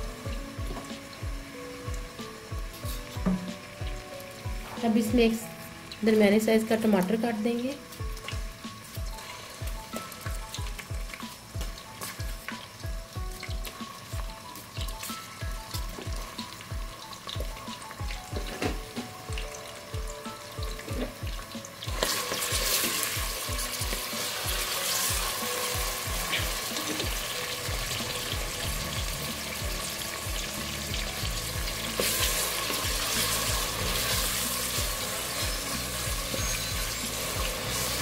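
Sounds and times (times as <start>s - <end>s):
vegetables sizzling in oil: 0.0s - 38.0s.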